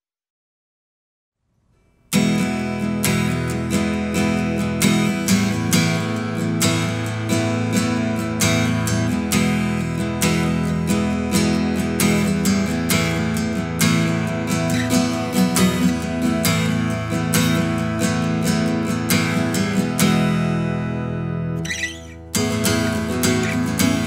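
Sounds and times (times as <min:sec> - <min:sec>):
acoustic guitar strumming chords: 0:01.9 - 0:24.0.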